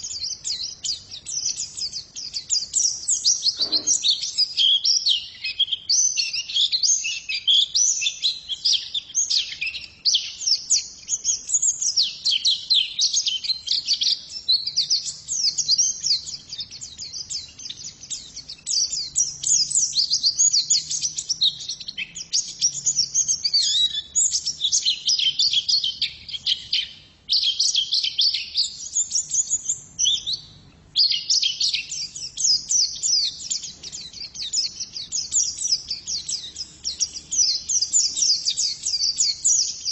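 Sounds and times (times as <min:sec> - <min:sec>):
bird high-pitched twittering: 0:00.0 - 0:39.9.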